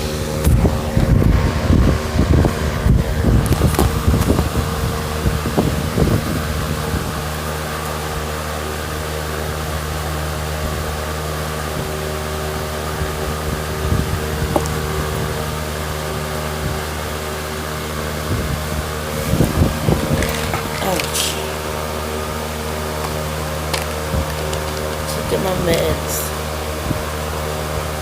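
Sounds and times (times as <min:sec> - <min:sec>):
motor humming: 0:00.0 - 0:28.0.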